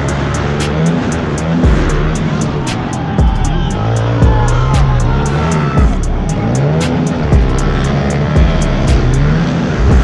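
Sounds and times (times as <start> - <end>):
music with steady beat: 0.0 - 10.0
pit bike engines racing: 0.0 - 10.0.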